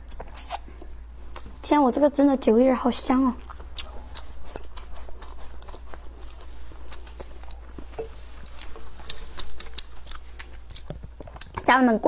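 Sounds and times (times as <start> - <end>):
woman chewing with mouth smacks: 0.0 - 1.6, 3.4 - 11.7.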